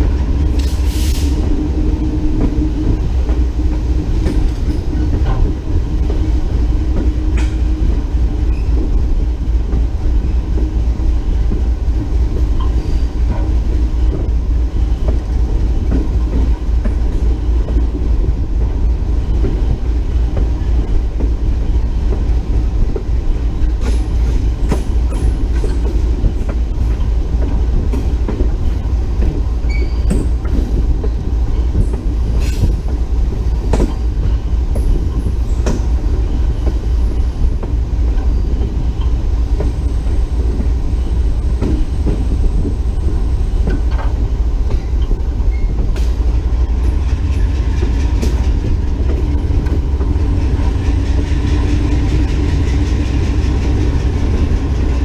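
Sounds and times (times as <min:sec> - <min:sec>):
locomotive rumbling on track: 0:00.0 - 0:55.0
wheels clicking over rail joints: 0:02.0 - 0:55.0.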